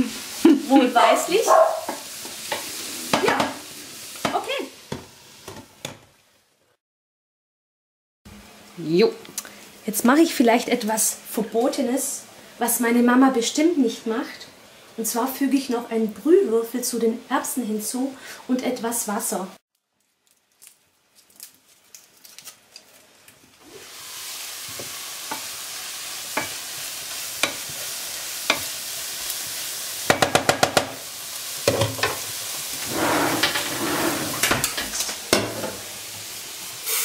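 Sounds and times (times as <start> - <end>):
vegetables sizzling in a pan: 0.0 - 6.6, 8.3 - 19.5, 22.4 - 37.0.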